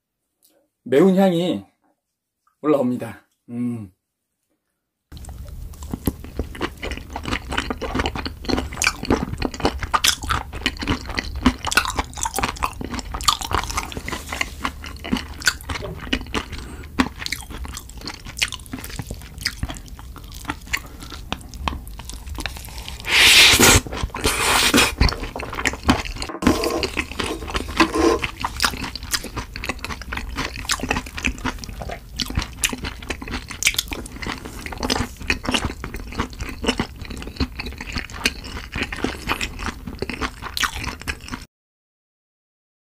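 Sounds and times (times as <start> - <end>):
wet chewing and crunching: 5.1 - 41.5.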